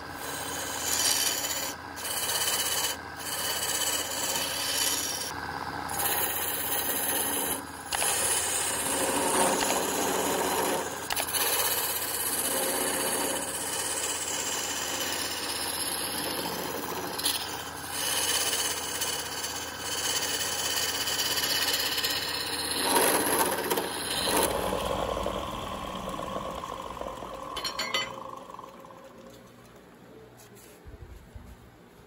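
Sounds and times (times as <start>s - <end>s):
lathe motor hum: 0.0s - 29.5s
shavings rubbing spinning wood: 0.0s - 29.6s.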